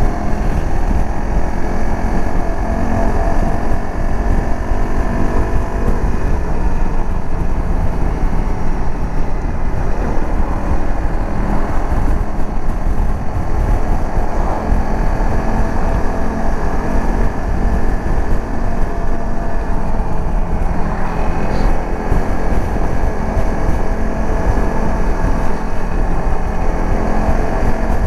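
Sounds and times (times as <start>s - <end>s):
dirt bike engine running: 0.0s - 28.0s.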